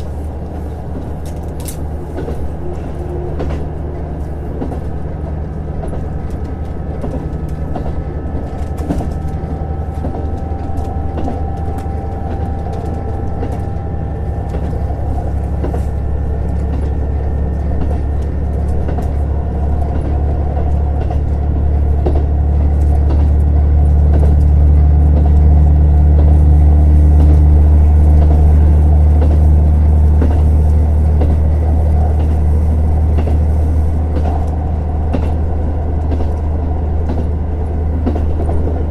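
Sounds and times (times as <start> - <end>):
diesel railcar engine drone: 0.0 - 38.9
wheels clicking over rails: 0.0 - 38.9.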